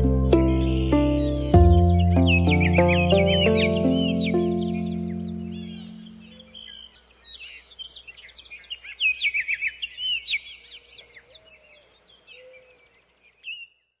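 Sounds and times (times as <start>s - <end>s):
songbirds chirping and twittering: 0.0s - 14.0s.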